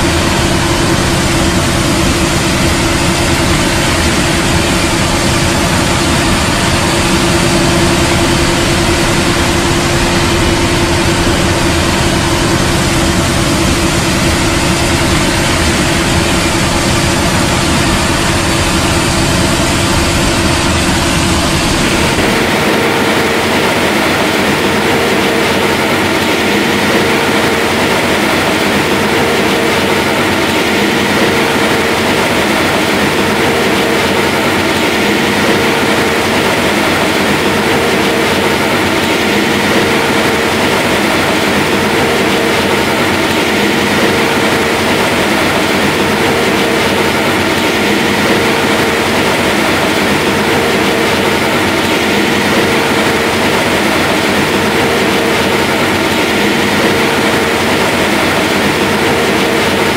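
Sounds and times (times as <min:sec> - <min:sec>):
heavy harvest machinery droning: 0:00.0 - 0:59.9.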